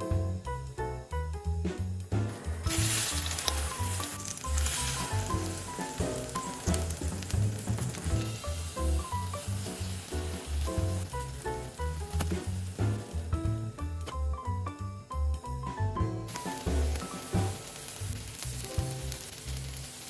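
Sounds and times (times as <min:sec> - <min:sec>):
background music with bass line: 0:00.0 - 0:19.2
tofu sizzling in a pan: 0:00.1 - 0:20.0.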